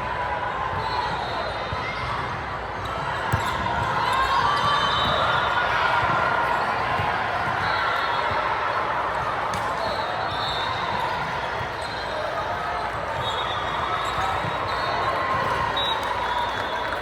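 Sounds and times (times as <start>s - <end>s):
crowd and player voices: 0.0s - 17.0s.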